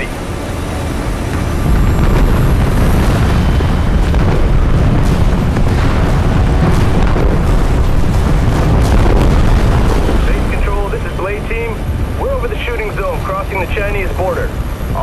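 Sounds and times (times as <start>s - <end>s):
rumble of bomb explosions: 0.0s - 15.0s.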